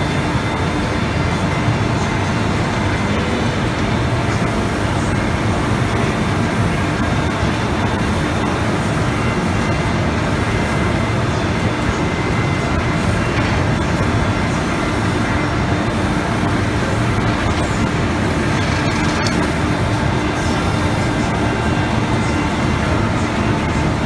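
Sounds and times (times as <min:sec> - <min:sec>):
cnc router running: 0:00.0 - 0:24.0
dust collectors humming: 0:00.0 - 0:24.0.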